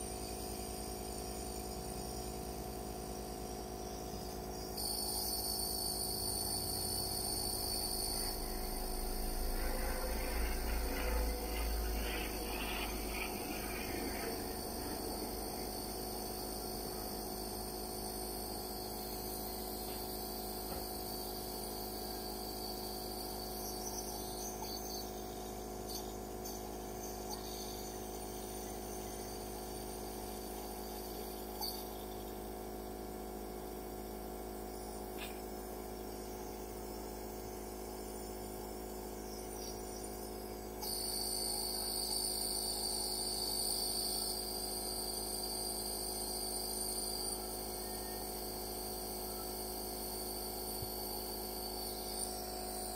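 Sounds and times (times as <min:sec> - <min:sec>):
compressor hum with high whine: 0:00.0 - 0:52.9.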